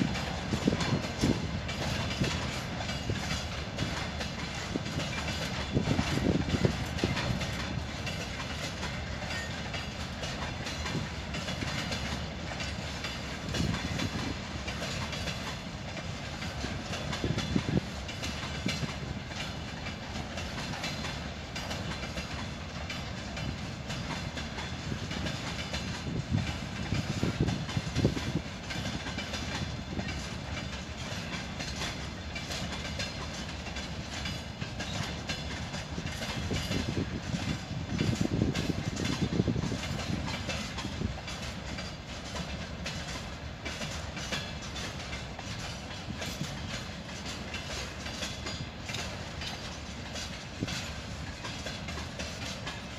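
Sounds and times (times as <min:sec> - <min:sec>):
train wheels clattering on rails: 0:00.0 - 0:52.9.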